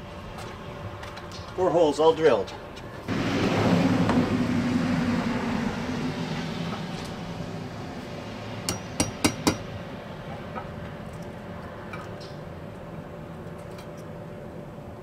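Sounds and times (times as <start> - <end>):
rushing noise with low hum: 0.0 - 15.0.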